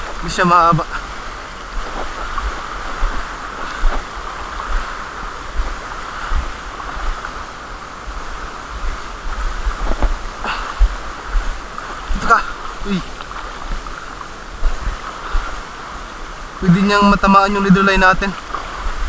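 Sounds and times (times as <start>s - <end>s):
wind buffeting microphone: 0.0s - 17.3s, 18.0s - 19.0s
small waves breaking: 0.0s - 19.0s.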